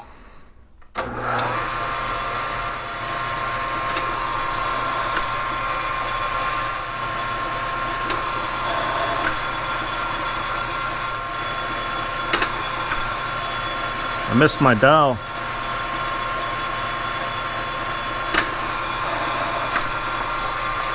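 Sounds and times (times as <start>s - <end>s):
lathe whining and humming: 1.0s - 20.9s.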